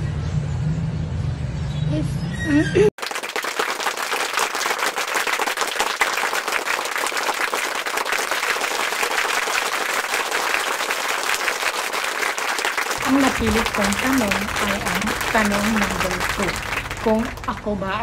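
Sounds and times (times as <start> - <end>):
crowd applause: 3.0 - 18.0.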